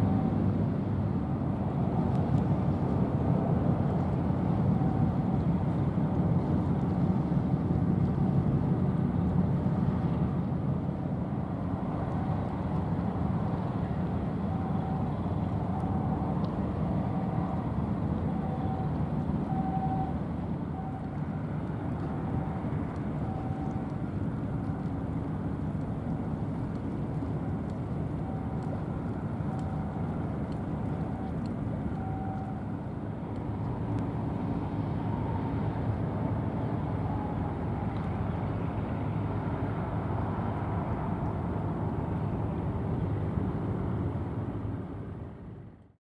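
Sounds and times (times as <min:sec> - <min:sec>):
distant engines and traffic: 0:00.0 - 0:46.0.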